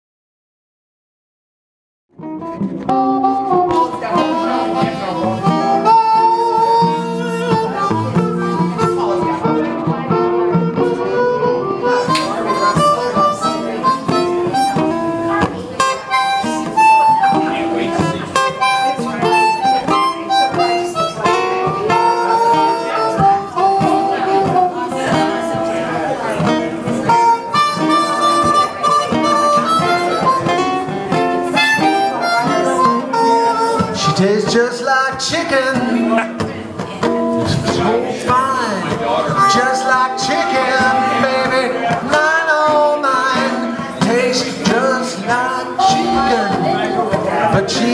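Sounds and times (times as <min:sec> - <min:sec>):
plucked guitar: 0:02.1 - 0:47.9
blues harmonica bent notes: 0:02.2 - 0:34.5, 0:35.5 - 0:47.9.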